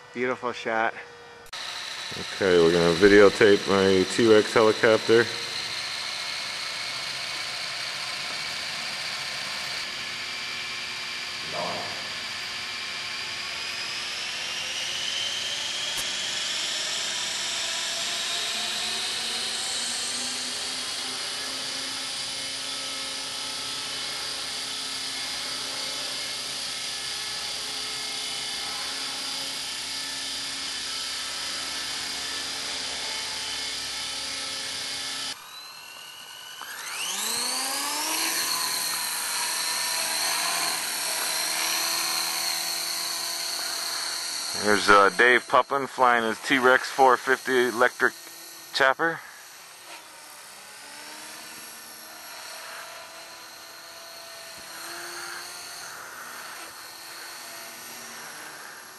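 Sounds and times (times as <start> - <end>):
rc helicopter rotor whine: 0.0 - 58.9.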